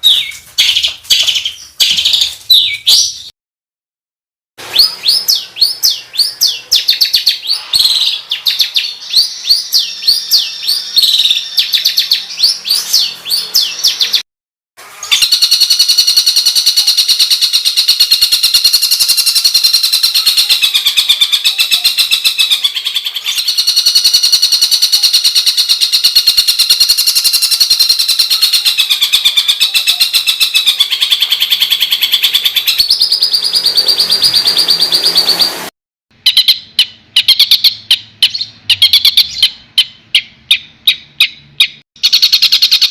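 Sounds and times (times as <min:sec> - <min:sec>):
songbird chirping and trilling: 0:00.0 - 0:03.3, 0:04.6 - 0:14.2, 0:15.0 - 0:42.9.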